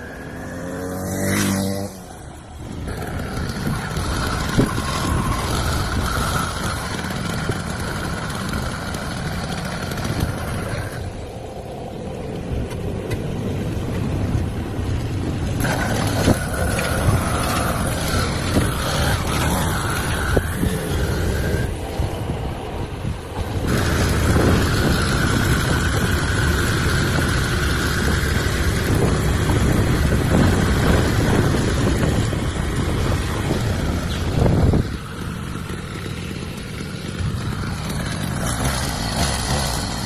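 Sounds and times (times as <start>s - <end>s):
small motorbike engine drone: 0.0s - 40.0s
wind noise: 0.0s - 40.0s.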